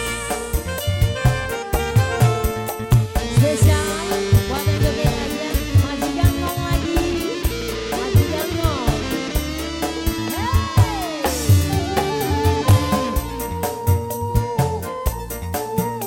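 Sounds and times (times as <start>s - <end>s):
drum beat: 0.0s - 14.8s
guitar: 0.0s - 16.0s
melody of sliding notes: 0.0s - 16.0s.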